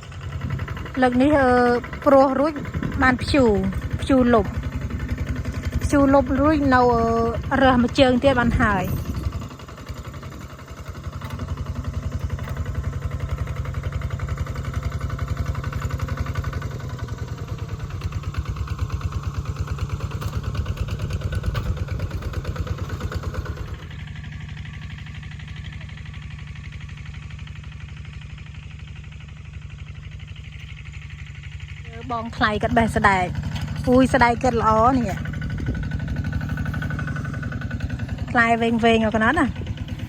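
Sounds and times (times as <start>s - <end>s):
small engine pulsing: 0.0s - 40.0s.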